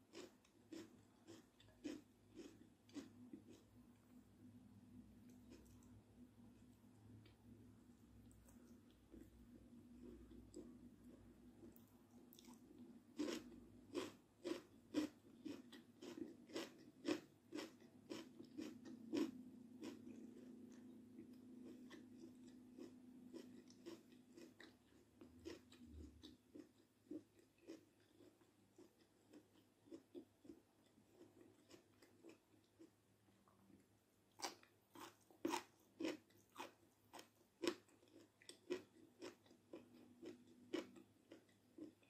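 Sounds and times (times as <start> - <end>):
close chewing crunching food: 0.0 - 3.8, 5.2 - 6.0, 8.2 - 33.6, 34.3 - 42.0.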